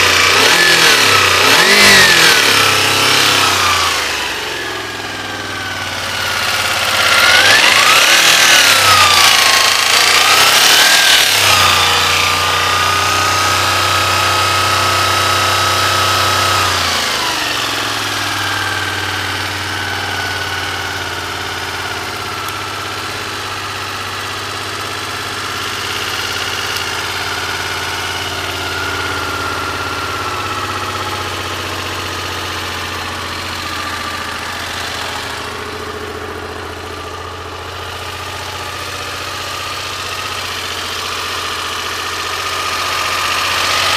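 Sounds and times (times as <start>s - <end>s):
motorcycle engine revving and idling: 0.0s - 43.9s.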